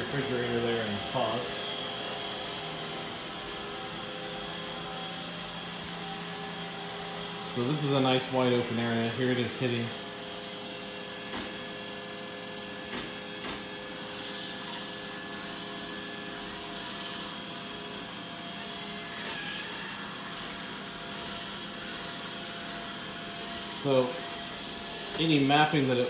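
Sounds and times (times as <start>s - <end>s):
robot vacuum running: 0.0s - 26.0s.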